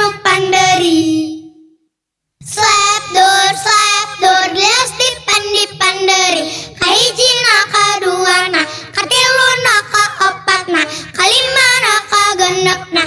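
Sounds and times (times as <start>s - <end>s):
child singing: 0.0s - 1.6s, 2.4s - 13.0s.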